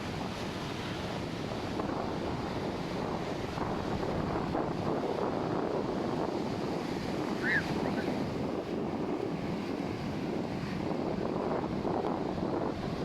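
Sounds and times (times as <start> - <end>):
ocean surf on beach: 0.0 - 13.0
wind buffeting microphone: 0.0 - 13.0.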